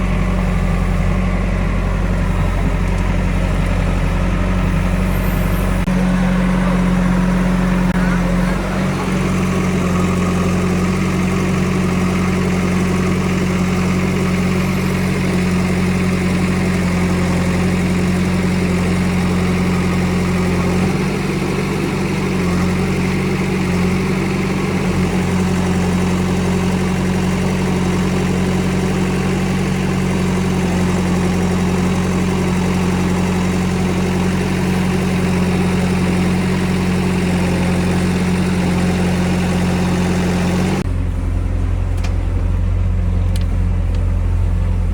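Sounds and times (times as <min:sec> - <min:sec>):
backhoe diesel engine running: 0:00.0 - 0:44.9.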